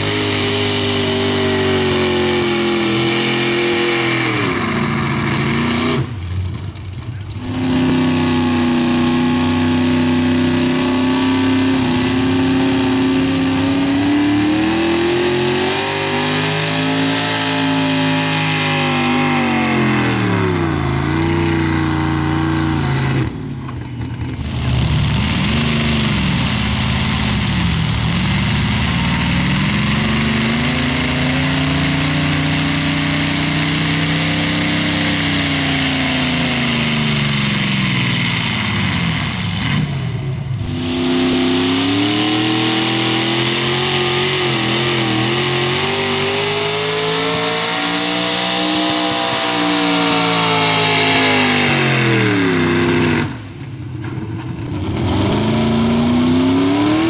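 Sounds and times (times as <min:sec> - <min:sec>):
truck engines at full throttle: 0:00.0 - 0:57.0.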